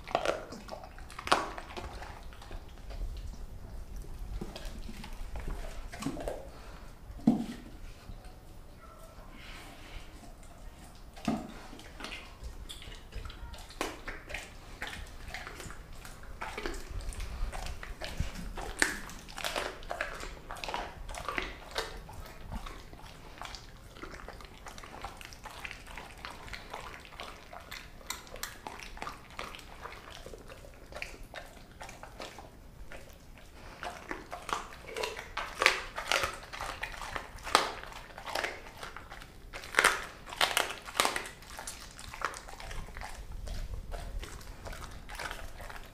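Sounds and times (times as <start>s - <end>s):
dog crunching bones: 0.0s - 8.1s, 9.8s - 45.9s.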